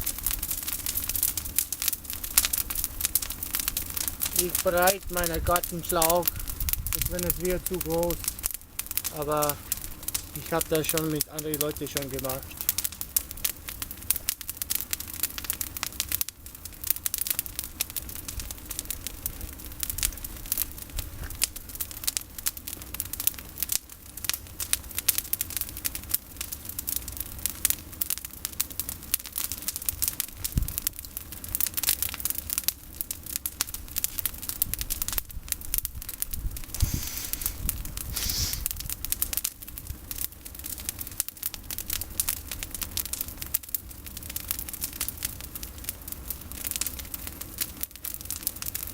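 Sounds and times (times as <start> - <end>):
bonfire crackling: 0.0 - 48.9.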